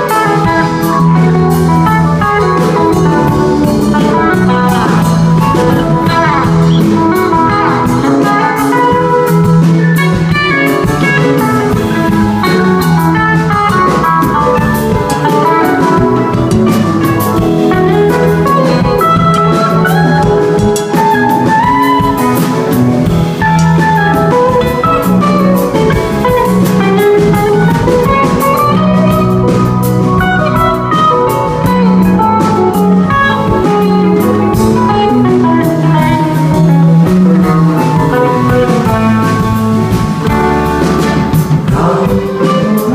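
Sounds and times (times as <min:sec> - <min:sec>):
drum kit: 0:00.0 - 0:42.9
electric guitar lead line: 0:00.0 - 0:42.9.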